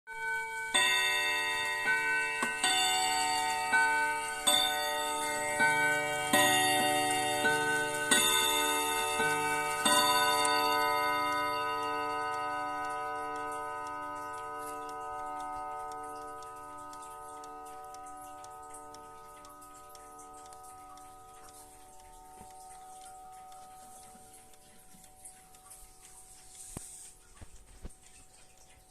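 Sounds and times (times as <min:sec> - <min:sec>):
faint clock ticking: 0:00.1 - 0:28.9
mantel clock chiming: 0:00.1 - 0:28.9.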